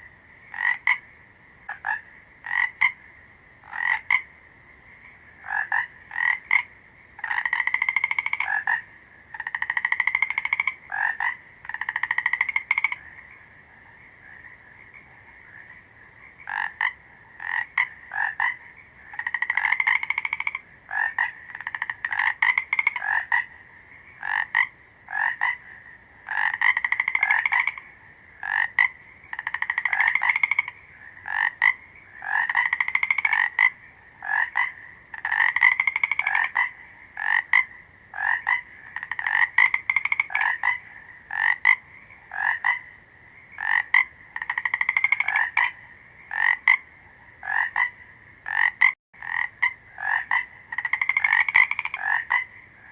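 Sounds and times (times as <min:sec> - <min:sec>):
frogs croaking: 0:00.0 - 0:52.9.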